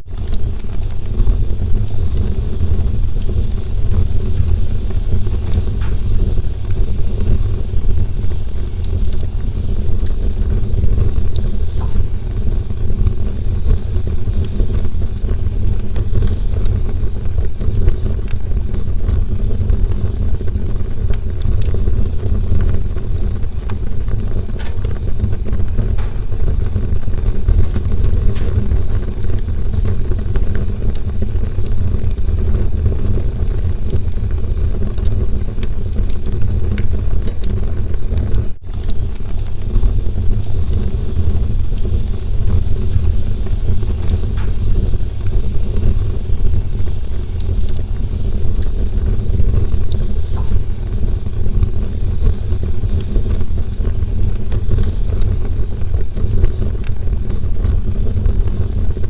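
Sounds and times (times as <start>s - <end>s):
campfire flames roaring: 0.0s - 59.0s
fire crackling and popping: 0.0s - 59.0s.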